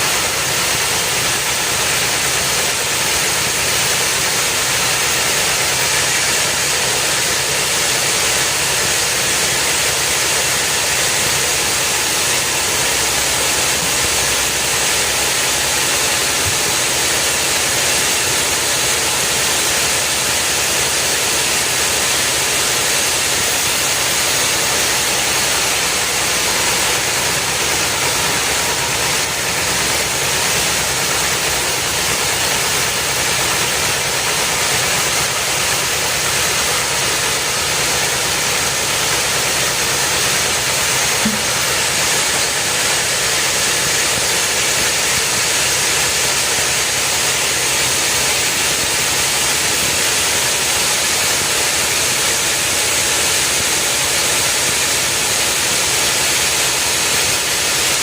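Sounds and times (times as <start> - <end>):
machine loud hissing: 0.0 - 58.0.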